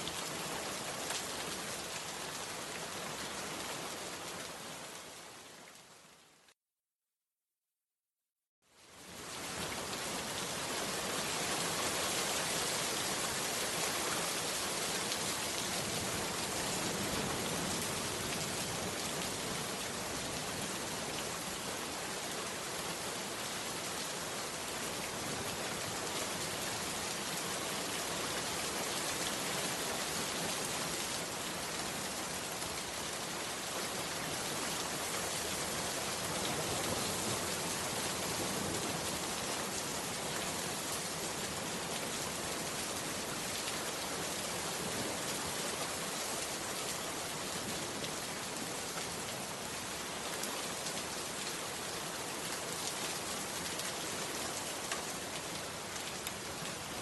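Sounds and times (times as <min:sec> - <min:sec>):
heavy rain falling: 0:09.0 - 0:57.0.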